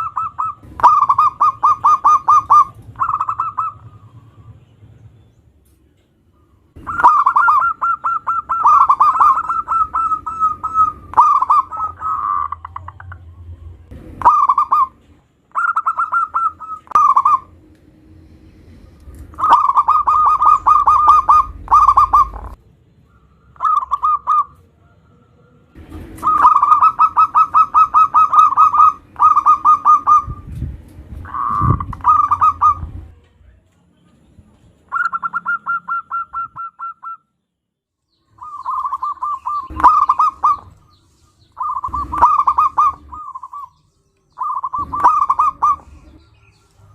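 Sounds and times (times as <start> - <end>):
dove cooing: 0.0 - 4.5, 6.7 - 17.6, 19.3 - 30.5, 31.2 - 33.1, 34.9 - 37.2, 38.4 - 43.8, 44.4 - 46.9.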